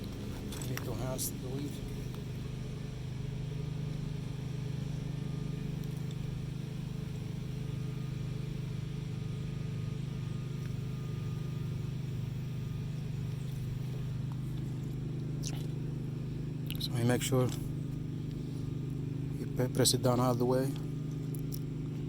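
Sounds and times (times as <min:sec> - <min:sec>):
low pulsing mechanical drone: 0:00.0 - 0:22.0.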